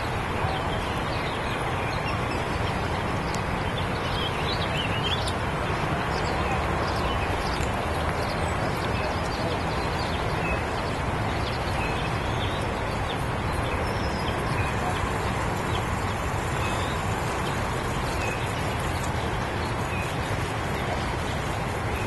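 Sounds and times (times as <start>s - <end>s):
river water rushing through dam: 0.0s - 22.0s.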